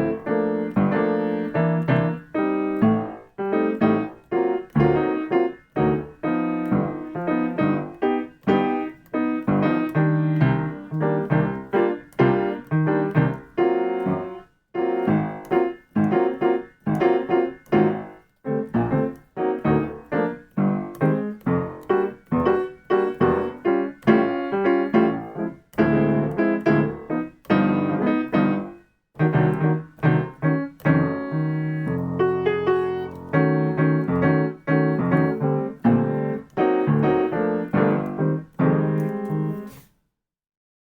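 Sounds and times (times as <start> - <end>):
piano chords: 0.0 - 39.8.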